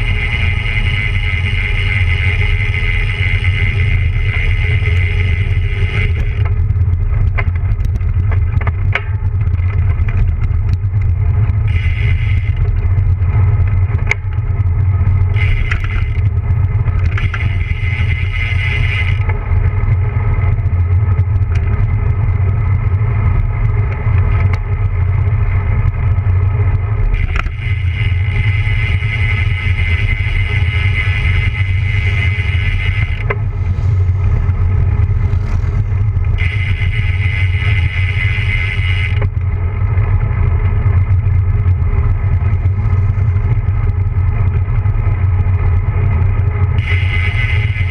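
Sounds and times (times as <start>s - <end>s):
bicycle tyres rumbling on asphalt: 0.0s - 47.9s
wind on microphone: 0.0s - 47.9s.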